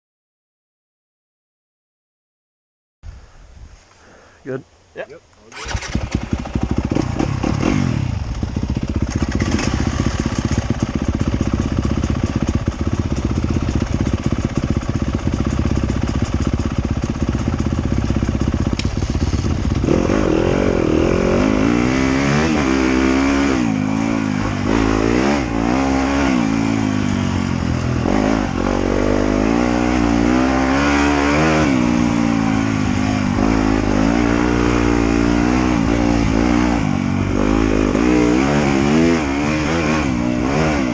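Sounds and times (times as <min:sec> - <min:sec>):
motorcycle engine idling and revving: 0:05.5 - 0:40.9.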